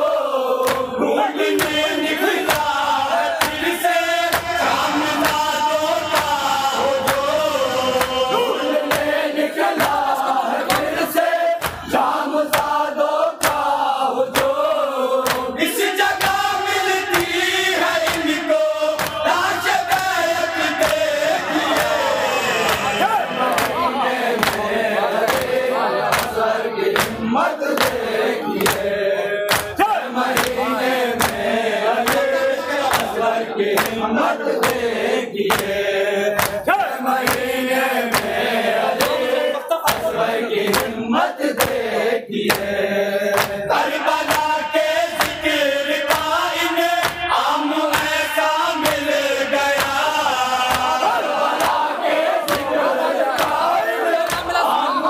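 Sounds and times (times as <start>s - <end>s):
men chanting in chorus: 0.0s - 55.0s
rhythmic chest-beating: 0.0s - 55.0s.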